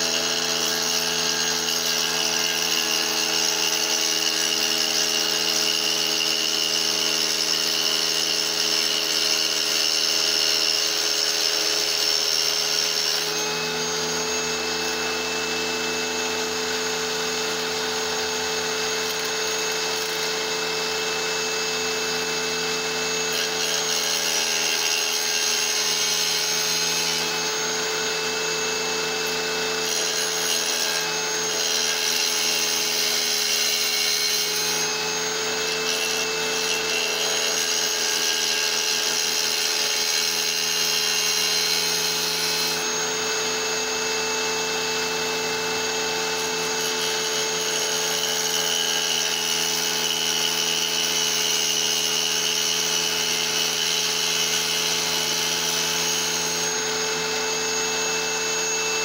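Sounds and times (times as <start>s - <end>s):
stone grinding against saw blade: 0.0s - 59.0s
tile saw motor whine: 0.0s - 59.0s.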